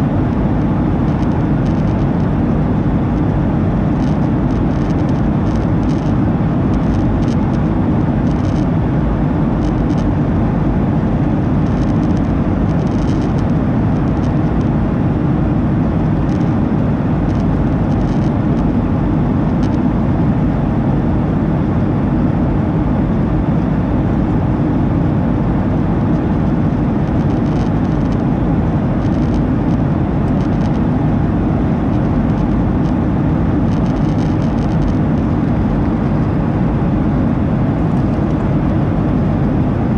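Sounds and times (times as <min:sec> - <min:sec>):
jet cabin roar: 0:00.0 - 0:39.9.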